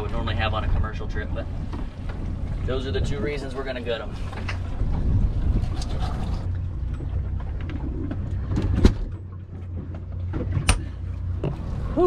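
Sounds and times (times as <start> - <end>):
outboard engines idling: 0.0 - 12.0.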